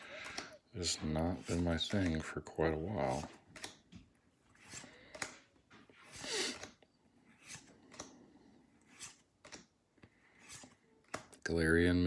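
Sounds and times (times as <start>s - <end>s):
trading cards flipped through: 0.0s - 0.6s, 1.3s - 11.4s.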